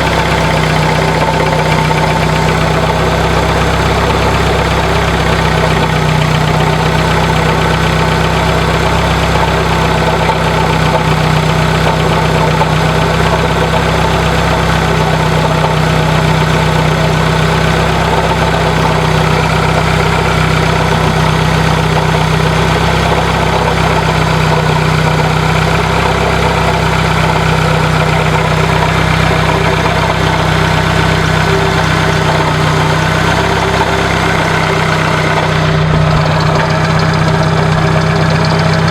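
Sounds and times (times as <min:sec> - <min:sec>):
alternator grinding and scraping: 0:00.0 - 0:38.9
car engine idling: 0:00.0 - 0:38.9.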